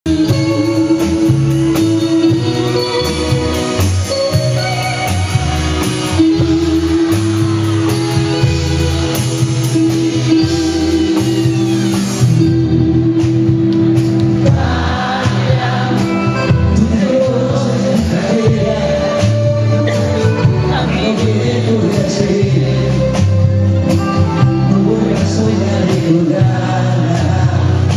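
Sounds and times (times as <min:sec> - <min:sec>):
man singing lead: 0:00.1 - 0:27.9
repeating bass line: 0:00.1 - 0:27.9.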